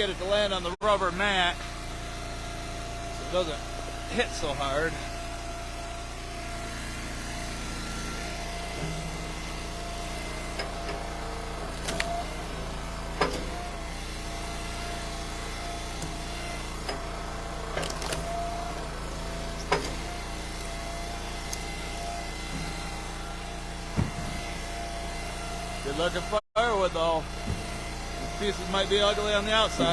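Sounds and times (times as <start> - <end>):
wood splitter engine running: 0.0 - 29.9.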